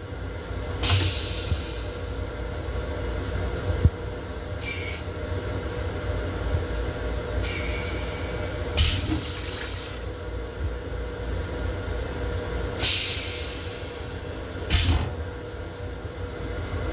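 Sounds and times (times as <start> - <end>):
train low rumble: 0.0 - 16.9.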